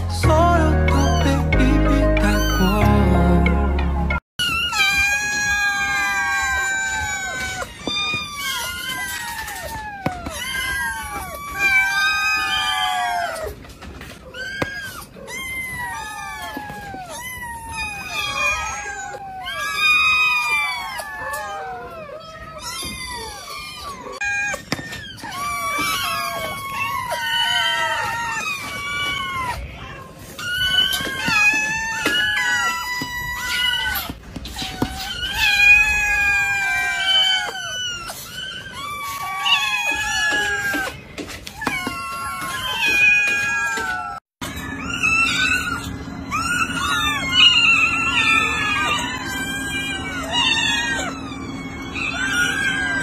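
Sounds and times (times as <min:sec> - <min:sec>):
kittens meowing: 0:00.0 - 0:03.0, 0:04.4 - 0:53.0.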